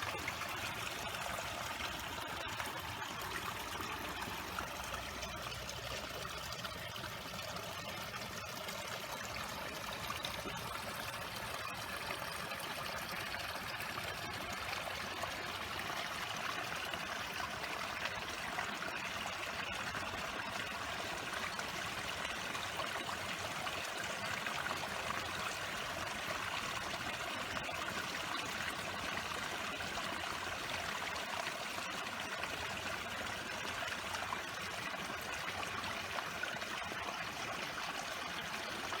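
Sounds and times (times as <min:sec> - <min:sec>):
stream flowing: 0:00.0 - 0:39.0.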